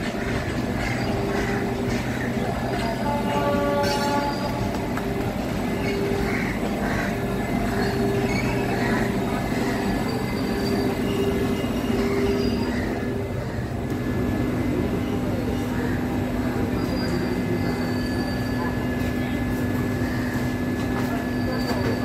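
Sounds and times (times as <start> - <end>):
electric train hum and whine: 0.0 - 22.0.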